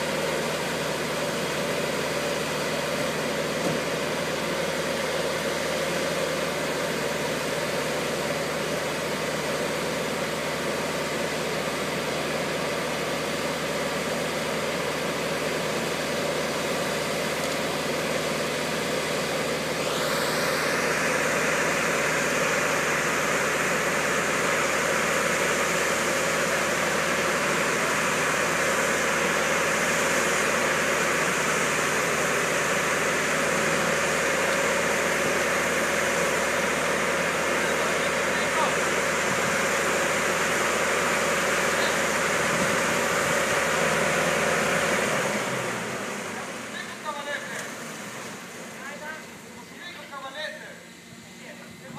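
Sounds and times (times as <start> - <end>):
lift engine running: 0.0 - 51.9.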